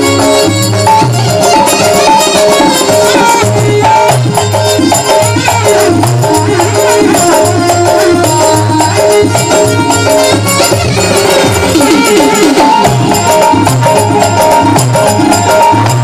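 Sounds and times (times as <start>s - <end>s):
instrumental folk music: 0.0s - 16.0s.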